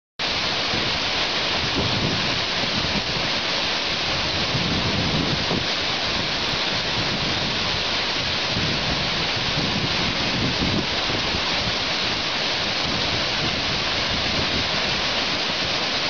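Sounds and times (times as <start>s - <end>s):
waterfall rushing: 0.2s - 16.0s.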